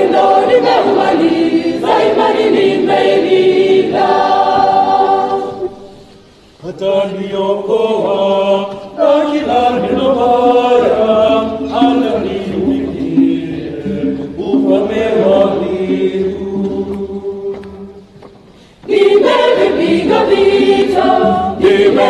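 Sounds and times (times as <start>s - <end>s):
church choir singing: 0.0s - 18.1s, 18.8s - 22.0s.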